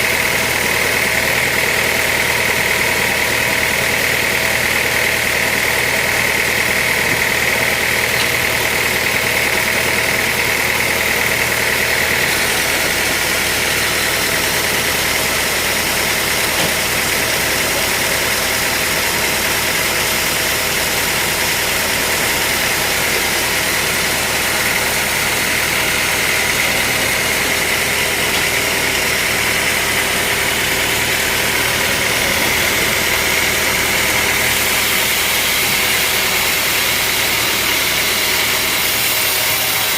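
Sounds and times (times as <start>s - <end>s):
sawmill machinery drone: 0.0s - 39.9s
high-pitched machine whine: 5.4s - 39.9s.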